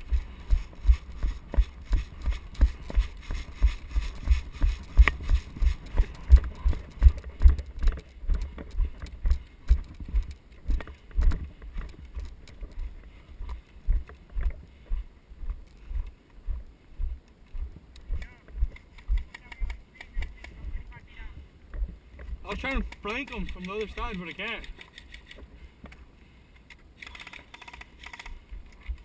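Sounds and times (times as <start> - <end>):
footsteps walking briskly: 0.0 - 24.7.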